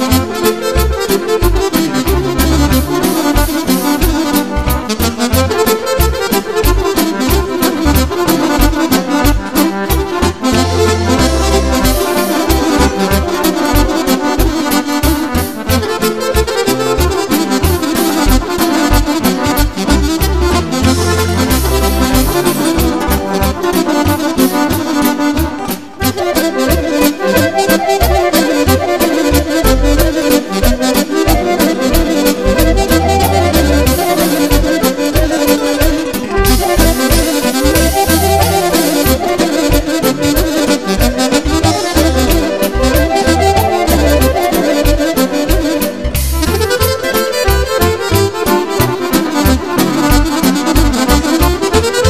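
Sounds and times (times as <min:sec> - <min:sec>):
steady bass beat: 0:00.0 - 0:25.6, 0:29.3 - 0:52.0
accordion folk music: 0:00.0 - 0:52.0.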